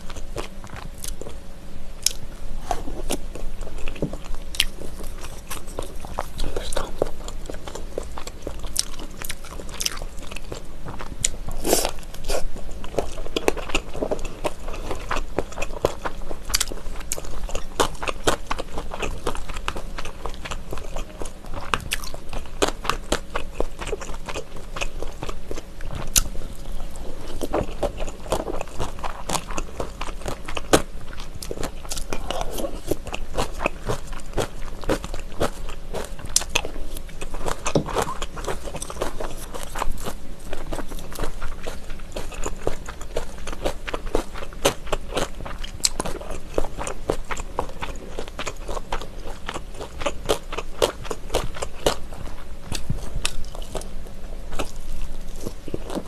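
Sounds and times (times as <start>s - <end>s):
chewing and biting: 2.0s - 56.0s.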